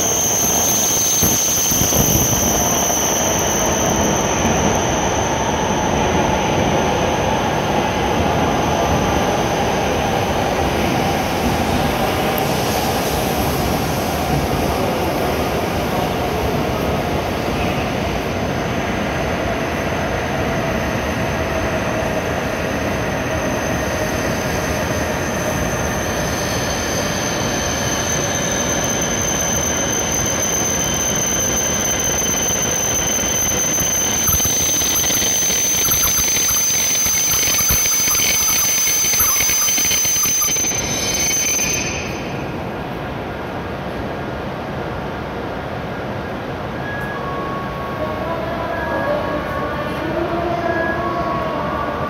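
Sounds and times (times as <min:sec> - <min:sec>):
train rolling with high whine: 0:00.0 - 0:52.0.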